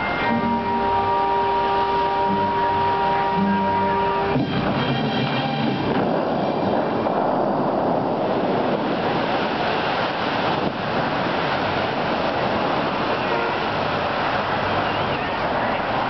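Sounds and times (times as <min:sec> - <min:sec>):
fountain water jets rushing: 0:00.0 - 0:16.0.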